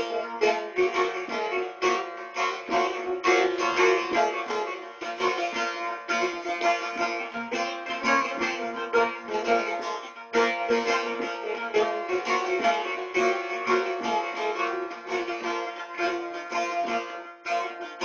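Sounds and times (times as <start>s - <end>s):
plucked long-necked lute melody: 0.0s - 18.0s.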